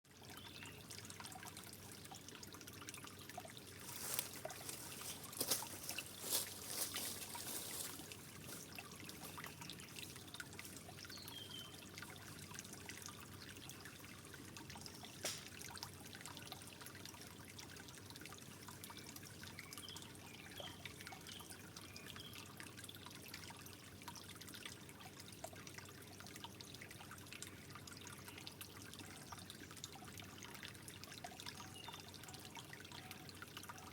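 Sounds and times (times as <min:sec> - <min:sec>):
louder water drips: 0:00.1 - 0:33.9
water trickling: 0:00.1 - 0:33.9.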